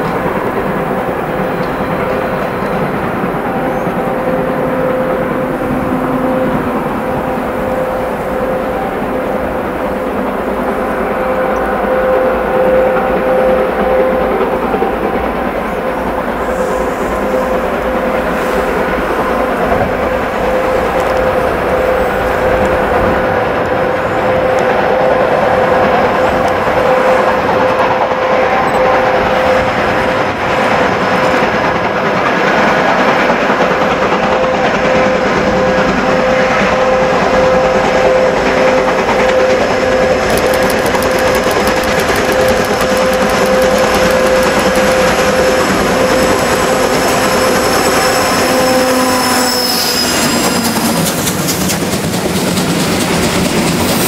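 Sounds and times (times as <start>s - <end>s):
train passing with steady drone: 0.0s - 54.0s.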